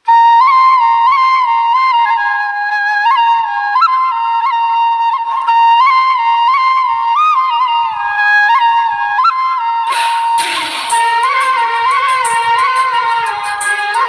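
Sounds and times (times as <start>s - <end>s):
flute melody: 0.0s - 14.0s.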